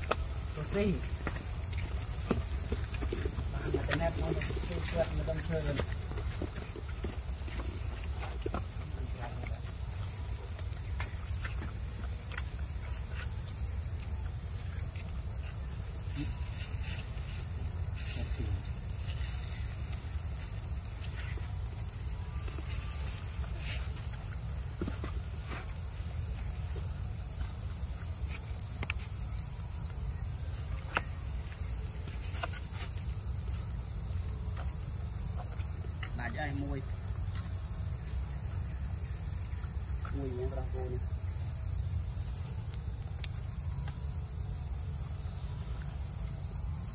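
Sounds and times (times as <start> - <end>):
insect chorus droning: 0.0 - 46.9.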